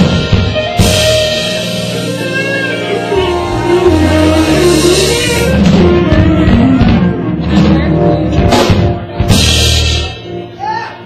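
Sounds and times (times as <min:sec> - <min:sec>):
bass line: 0:00.0 - 0:10.6
electric guitar: 0:00.0 - 0:10.6
drum kit: 0:00.0 - 0:10.9.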